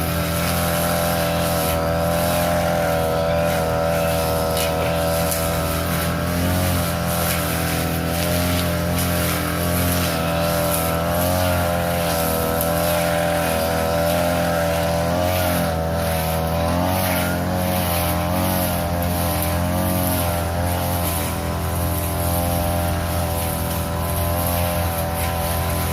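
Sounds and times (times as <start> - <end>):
grass cutter engine running: 0.0 - 25.9.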